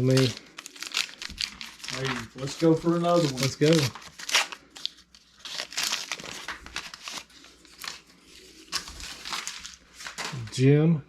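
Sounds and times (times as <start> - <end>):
wrapper being torn and crinkled: 0.0 - 10.5.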